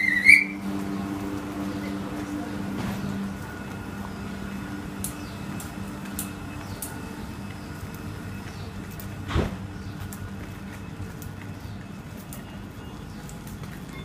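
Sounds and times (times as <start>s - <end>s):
electric train traction hum: 0.0s - 14.0s.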